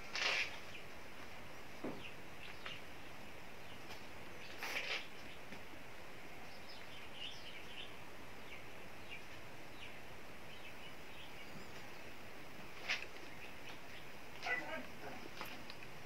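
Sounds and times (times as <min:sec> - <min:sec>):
faint birds chirping: 0:00.0 - 0:16.0
steady background hiss: 0:00.0 - 0:16.0.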